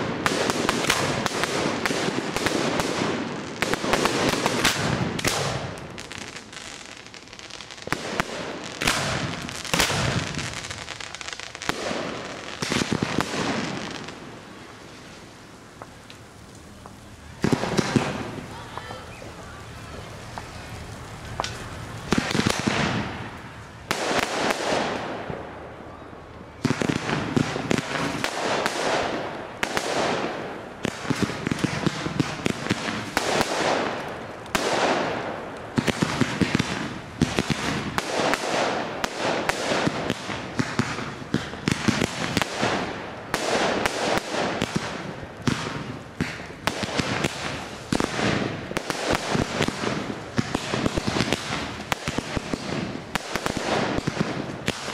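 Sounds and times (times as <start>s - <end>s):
fireworks bursting with echo: 0.0s - 54.9s.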